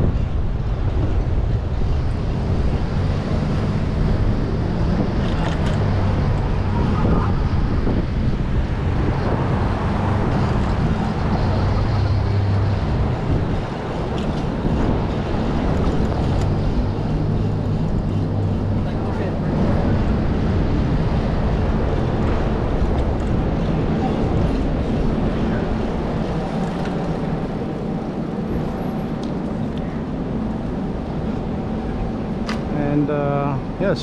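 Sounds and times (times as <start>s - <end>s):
passing traffic engine hum: 0.0s - 34.0s
wind rumbling over microphone: 0.0s - 34.0s.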